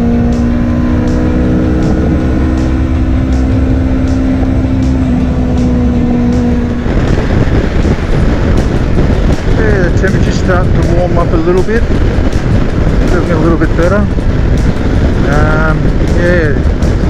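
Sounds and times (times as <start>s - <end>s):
motorcycle engine cruising: 0.0s - 17.0s
wind rumble on microphone: 0.0s - 17.0s.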